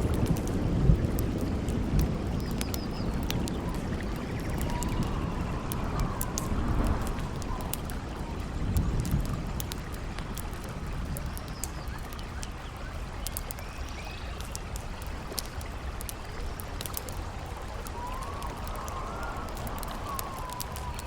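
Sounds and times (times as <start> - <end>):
wind howling: 0.0 - 13.2, 13.8 - 21.0
campfire crackling and popping: 0.0 - 21.0.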